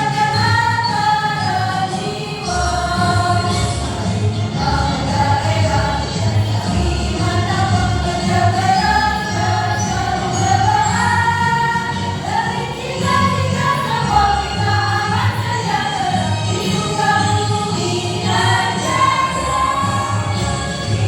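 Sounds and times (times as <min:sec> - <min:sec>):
choir singing a march: 0:00.0 - 0:21.0.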